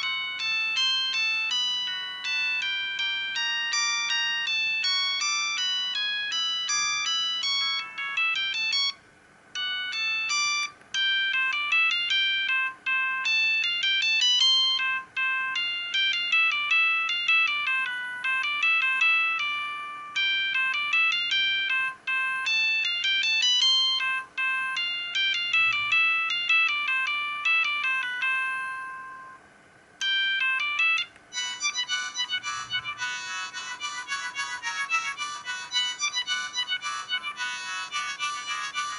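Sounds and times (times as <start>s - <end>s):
mobile phone ringtone melody: 0.0s - 29.4s, 30.0s - 38.9s.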